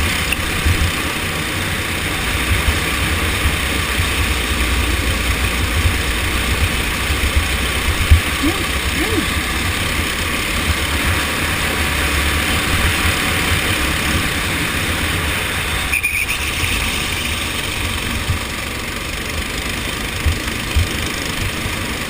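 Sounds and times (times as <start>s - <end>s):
go-kart engine racing: 0.0s - 22.0s
road noise: 0.0s - 22.0s.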